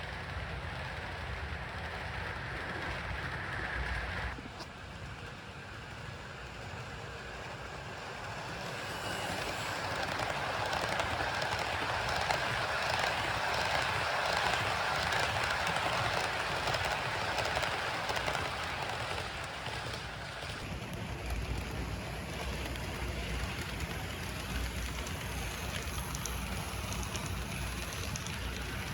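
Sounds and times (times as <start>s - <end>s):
model train motor whirring: 0.2s - 28.9s.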